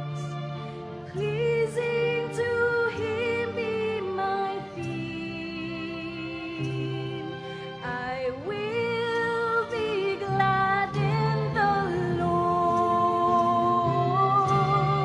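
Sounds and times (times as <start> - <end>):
sustained musical accompaniment: 0.0 - 15.0.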